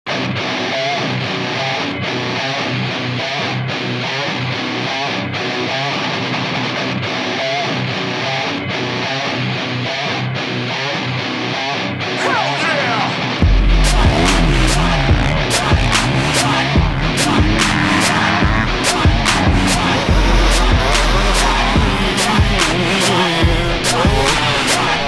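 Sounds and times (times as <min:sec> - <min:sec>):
electric guitar riff: 0:00.1 - 0:25.0.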